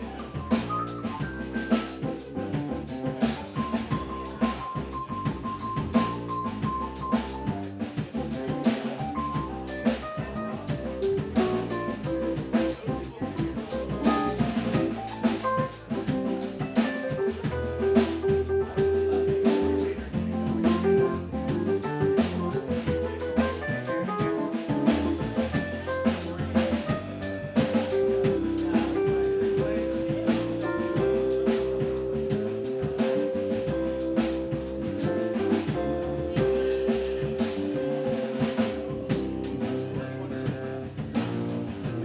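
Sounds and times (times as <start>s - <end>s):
drum kit with cymbals: 0.0s - 42.0s
keyboard: 0.0s - 42.0s
walking electric bass: 0.0s - 42.0s.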